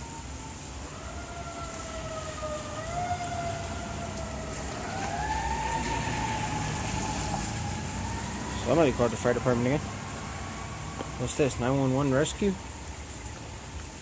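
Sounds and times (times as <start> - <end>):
emergency siren wailing: 0.0 - 14.0
heavy rain: 0.0 - 14.0.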